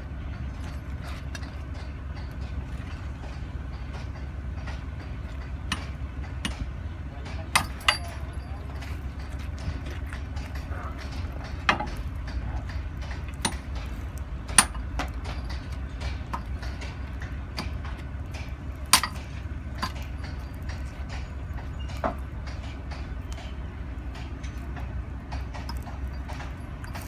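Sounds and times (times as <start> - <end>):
engine idling: 0.0 - 27.0
hammer striking steel: 3.2 - 27.0.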